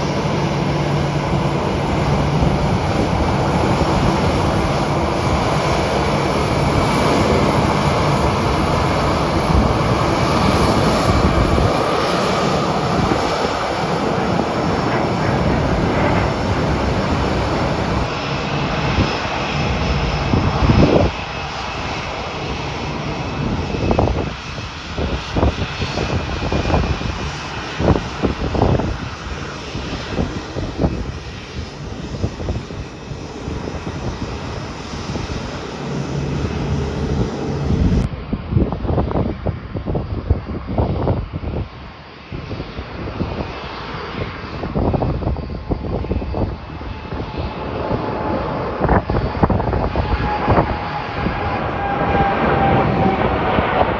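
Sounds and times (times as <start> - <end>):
airliner engines roaring: 0.0 - 53.9
gusty rumble: 0.0 - 53.9.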